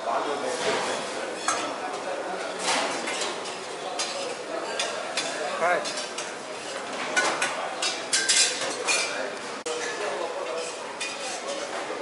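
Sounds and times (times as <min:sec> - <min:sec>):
hubbub of dining room: 0:00.0 - 0:12.0
cutlery and dishes clinking: 0:00.6 - 0:01.8, 0:02.5 - 0:11.9.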